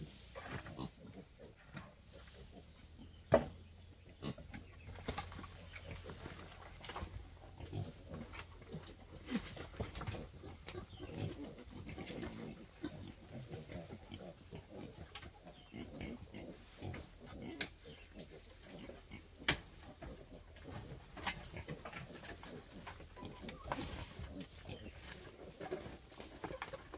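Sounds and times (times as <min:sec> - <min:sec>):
wild boars grunting: 0:04.0 - 0:25.6.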